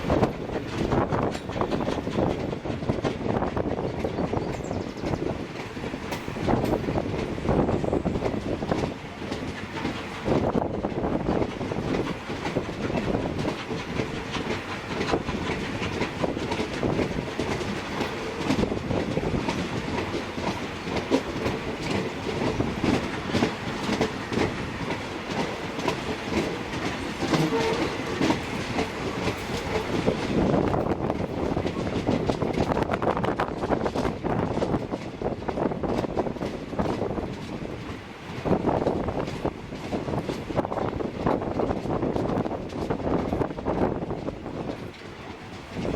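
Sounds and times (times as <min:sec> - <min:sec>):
train wheels clacking on rails: 0:00.0 - 0:45.9.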